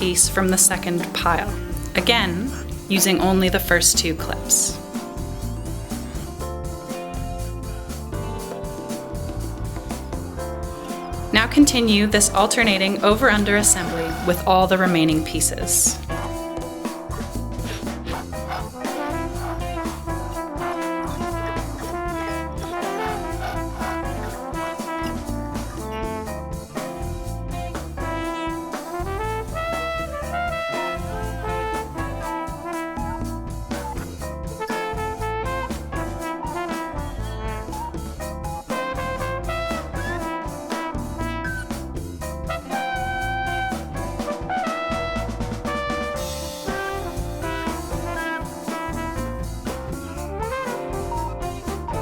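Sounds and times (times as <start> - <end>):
jazz music with brass: 0.0 - 52.0.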